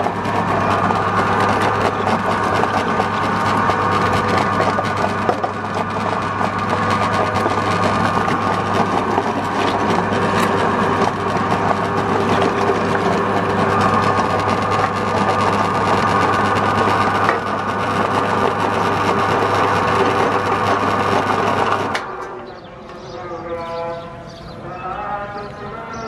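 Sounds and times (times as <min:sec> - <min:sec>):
meat grinder humming: 0:00.0 - 0:22.3.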